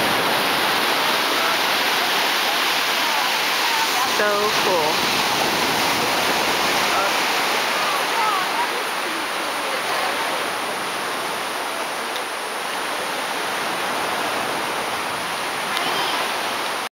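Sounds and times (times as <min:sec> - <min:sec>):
ocean surf washing on beach: 0:00.0 - 0:16.9.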